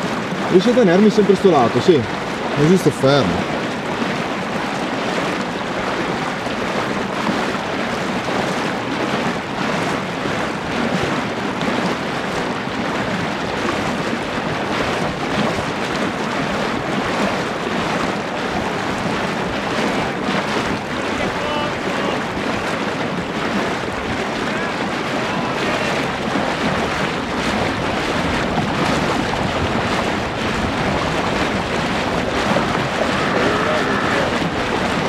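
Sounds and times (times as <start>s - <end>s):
lake water lapping and splashing: 0.0s - 35.0s
wind on microphone: 0.0s - 35.0s.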